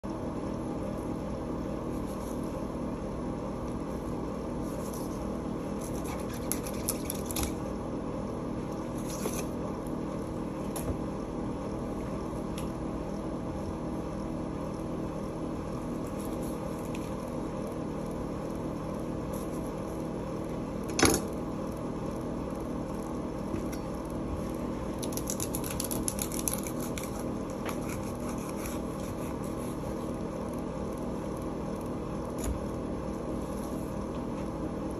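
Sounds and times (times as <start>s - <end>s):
steady machine hum: 0.0s - 34.9s.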